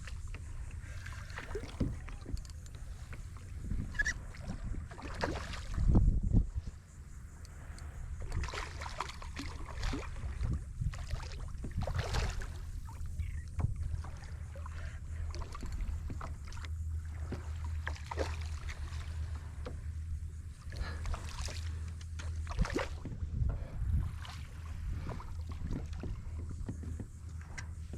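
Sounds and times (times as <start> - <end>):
steady low rumble: 0.0 - 27.9
water lapping against kayak hull: 0.0 - 27.9.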